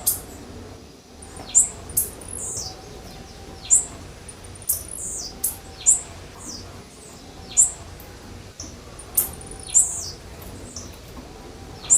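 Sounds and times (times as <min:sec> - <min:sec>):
bird chirping: 0:00.0 - 0:11.9.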